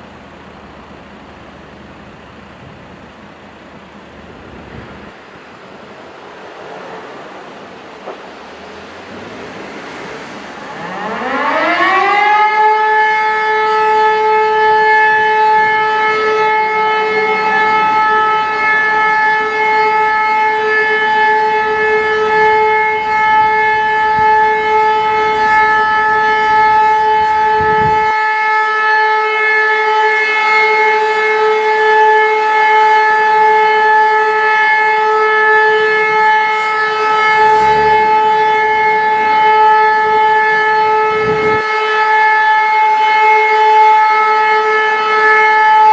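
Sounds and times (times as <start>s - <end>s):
civil defence siren steady tone: 0.0s - 45.9s.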